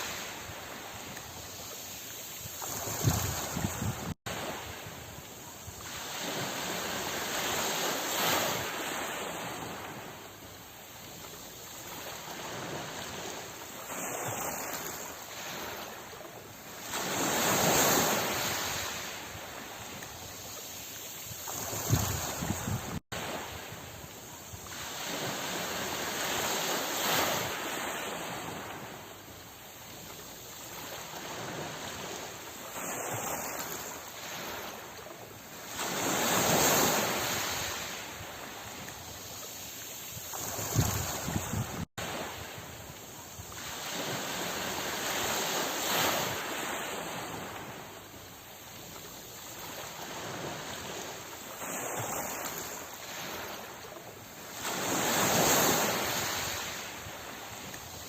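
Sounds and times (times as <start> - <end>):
hiss of surf: 0.0 - 58.0
sea waves breaking: 0.0 - 58.0.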